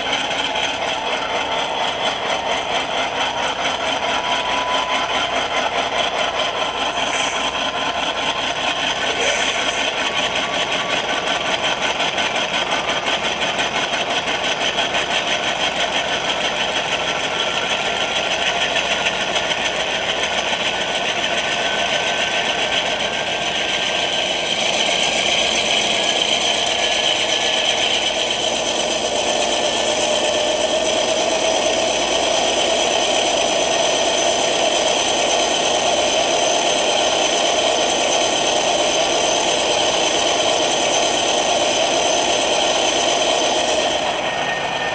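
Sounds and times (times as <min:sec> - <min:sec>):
model train diesel engine sound: 0:00.0 - 0:44.9.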